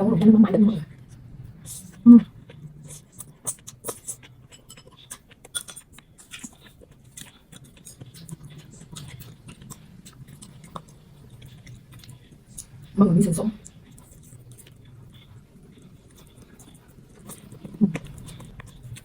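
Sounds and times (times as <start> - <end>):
chewing with crunches: 0.2 - 19.0.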